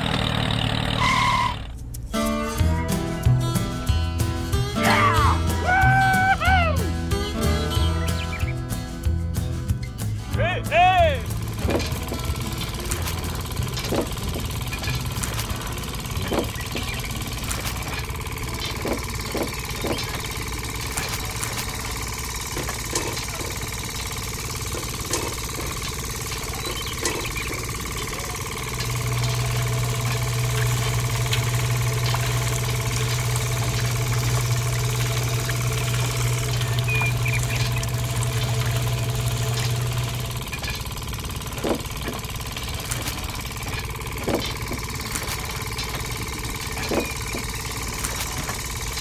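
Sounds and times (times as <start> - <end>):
small motor humming: 0.0 - 3.8, 11.2 - 49.0
loud low hum: 0.0 - 49.0.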